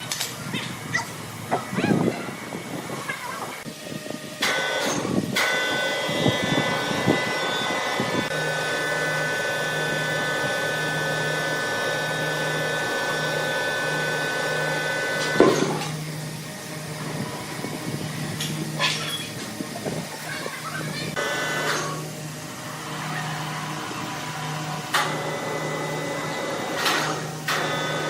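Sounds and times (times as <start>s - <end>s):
machine motor whining: 1.7s - 28.0s.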